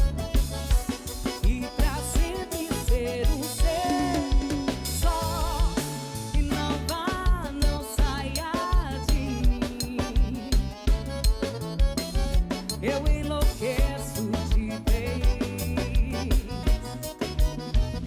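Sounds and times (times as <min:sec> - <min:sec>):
bass line: 0:00.0 - 0:18.0
drum-kit beat: 0:00.0 - 0:18.0.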